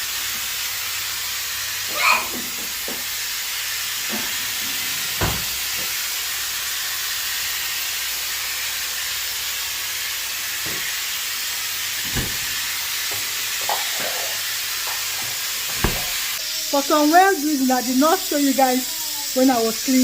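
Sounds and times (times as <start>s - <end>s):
pressure cooker hissing steam: 0.0s - 20.0s.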